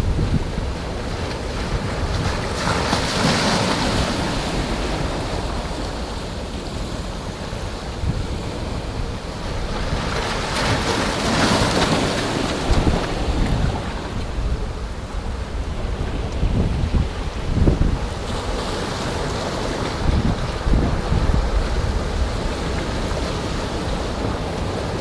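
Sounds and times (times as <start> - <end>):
waves breaking: 0.0 - 25.0
wind buffeting the microphone: 0.0 - 25.0.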